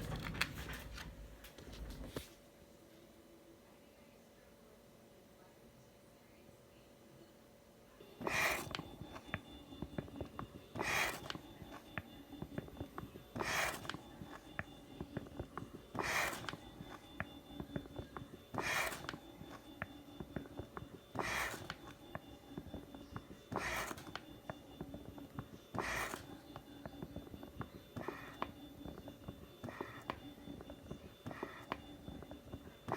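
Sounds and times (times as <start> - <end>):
faint hum: 0.0 - 32.9.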